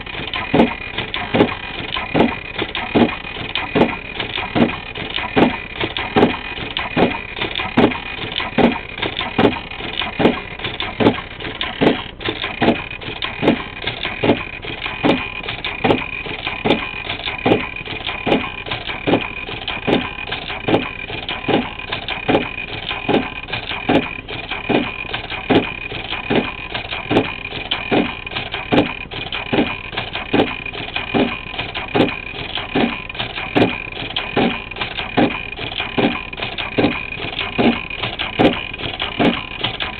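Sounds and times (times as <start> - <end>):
sewing machine knocking: 0.0 - 39.9
sewing machine whining: 0.0 - 39.9.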